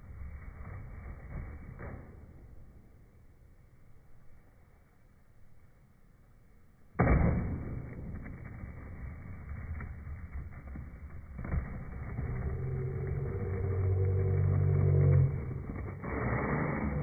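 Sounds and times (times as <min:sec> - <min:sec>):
skateboard wheels rolling on concrete: 0:00.0 - 0:17.0.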